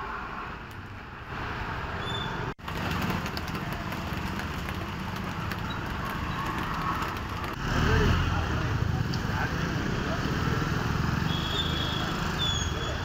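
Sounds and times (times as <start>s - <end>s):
traffic on wet road: 0.0s - 13.0s.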